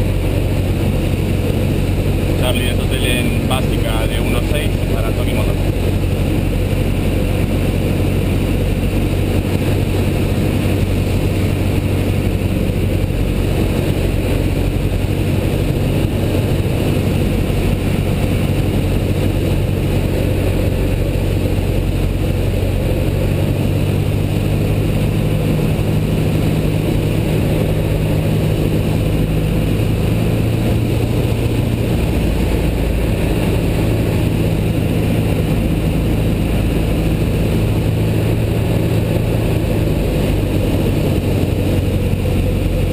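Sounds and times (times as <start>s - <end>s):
light aircraft engine drone: 0.0s - 42.9s.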